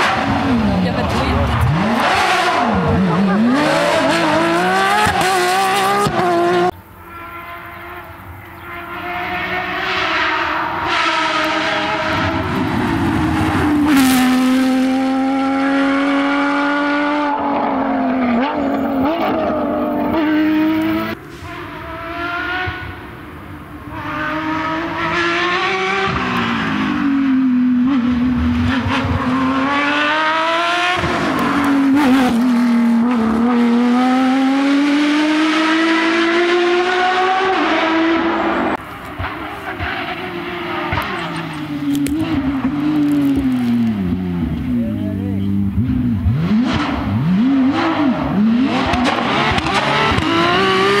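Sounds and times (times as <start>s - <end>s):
rally car engine revving: 0.0s - 51.0s.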